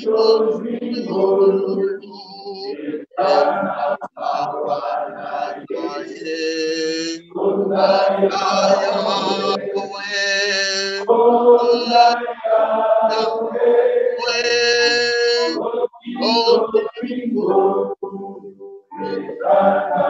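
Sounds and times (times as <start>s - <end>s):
man chanting in long notes: 0.0s - 18.3s, 18.9s - 20.0s.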